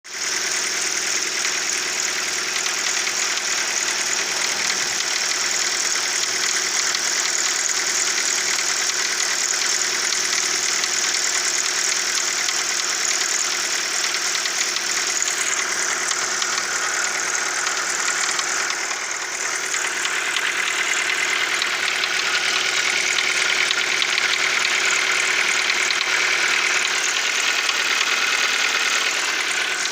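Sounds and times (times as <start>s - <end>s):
car engine running: 0.0s - 29.9s
engine knocking and grinding: 0.0s - 29.9s.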